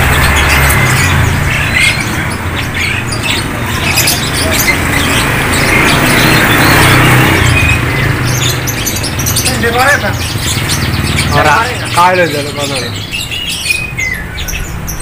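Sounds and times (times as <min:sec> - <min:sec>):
caged songbirds chirping: 0:00.0 - 0:15.0.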